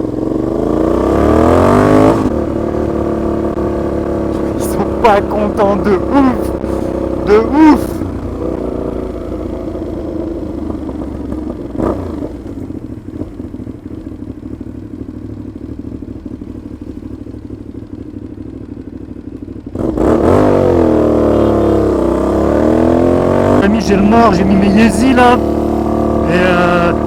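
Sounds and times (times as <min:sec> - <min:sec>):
motorcycle engine with loud exhaust: 0:00.0 - 0:27.0.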